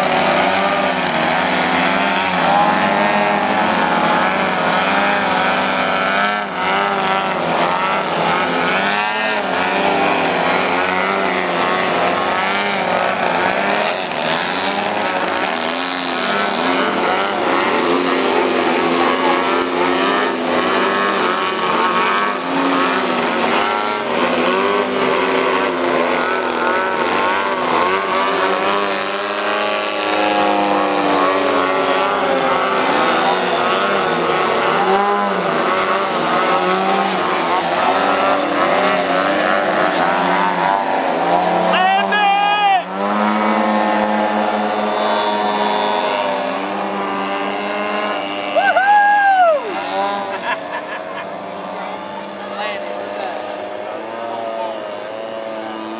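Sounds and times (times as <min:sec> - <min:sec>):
model plane engines droning: 0:00.0 - 0:55.9.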